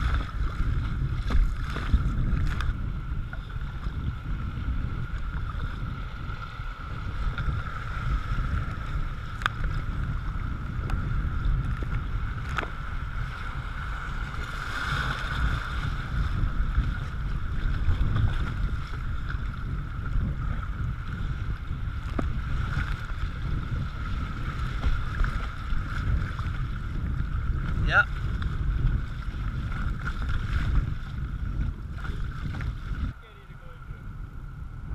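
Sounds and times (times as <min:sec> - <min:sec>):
wind rumbling on microphone: 0:00.0 - 0:34.9.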